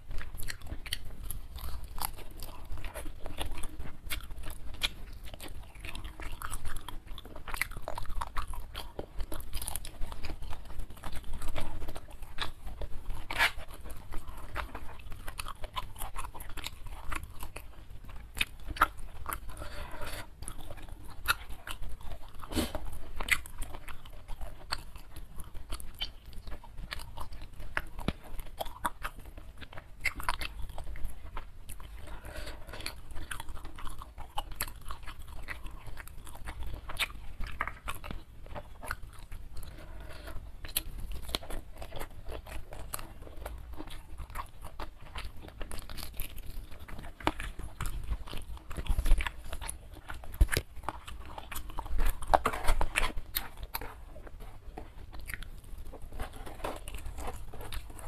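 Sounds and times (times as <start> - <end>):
wet chewing with crunches: 0.0 - 58.0.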